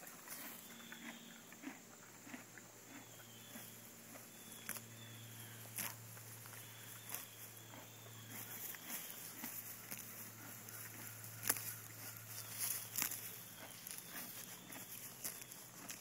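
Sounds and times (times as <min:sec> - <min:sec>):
horse tearing and chewing grass: 0:00.0 - 0:16.0
low hum: 0:00.0 - 0:16.0.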